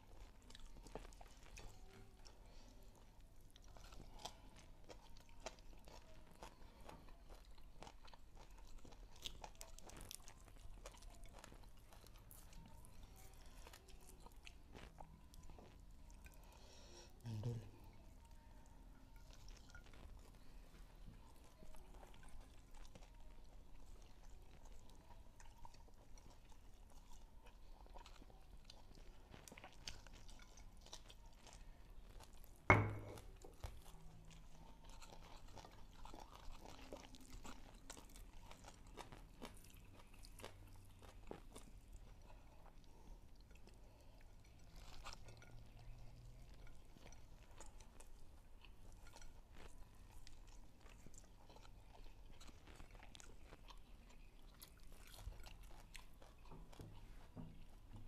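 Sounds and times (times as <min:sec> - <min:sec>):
people chewing and crunching: 0:00.0 - 0:58.0.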